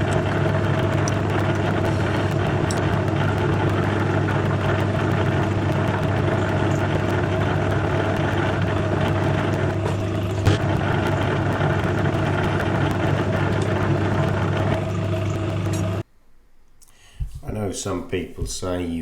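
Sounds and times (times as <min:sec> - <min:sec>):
metal lathe motor humming: 0:00.0 - 0:16.0.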